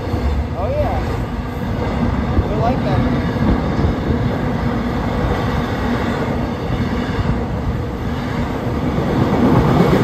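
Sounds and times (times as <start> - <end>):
train wheels on track: 0.0 - 10.0.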